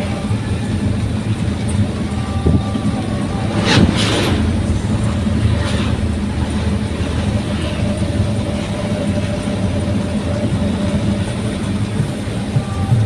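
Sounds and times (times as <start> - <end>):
pickup engine droning: 0.0 - 13.0.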